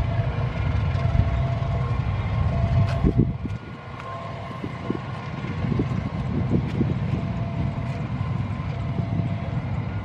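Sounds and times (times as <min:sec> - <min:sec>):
distant train rumble: 0:00.0 - 0:10.0
wind buffeting microphone: 0:00.0 - 0:10.0.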